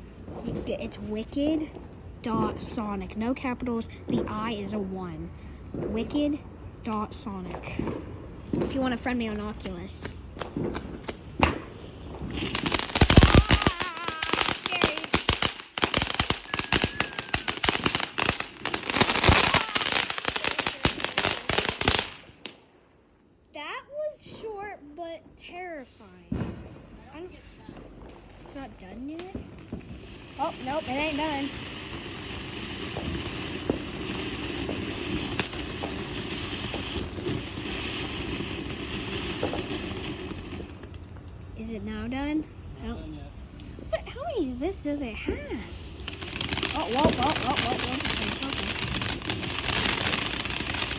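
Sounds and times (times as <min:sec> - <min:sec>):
firework crackling pops: 0:00.0 - 0:22.8, 0:25.7 - 0:42.8, 0:43.4 - 0:50.9.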